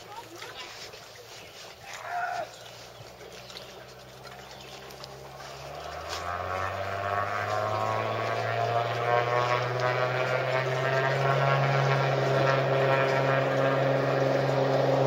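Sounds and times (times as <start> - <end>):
floatplane engine and propeller: 0.0 - 15.0.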